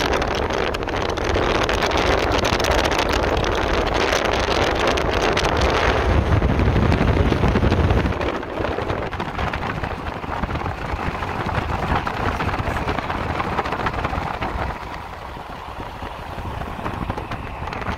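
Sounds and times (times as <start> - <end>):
road noise from moving vehicle: 0.0 - 17.9
wind buffeting: 0.0 - 17.9.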